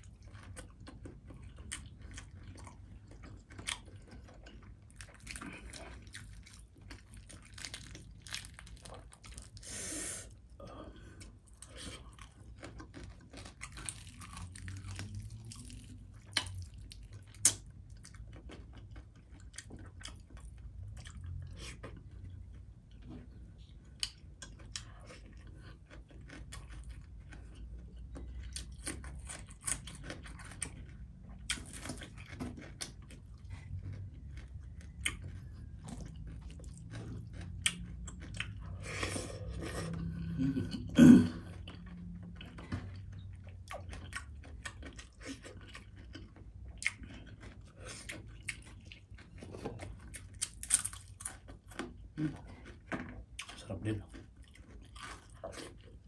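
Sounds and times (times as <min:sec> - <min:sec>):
close chewing with mouth sounds: 0:00.0 - 0:56.0.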